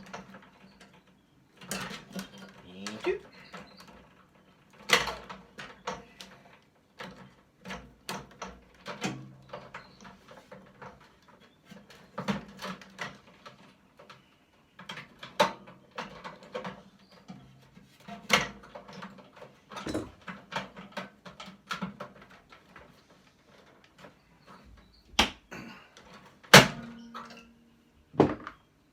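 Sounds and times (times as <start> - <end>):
hand tools clicking and clattering: 0.0 - 27.6.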